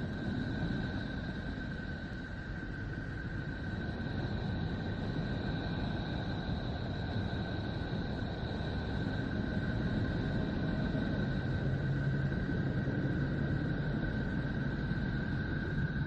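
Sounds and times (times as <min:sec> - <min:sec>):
deep rumbling drone: 0:00.0 - 0:16.0.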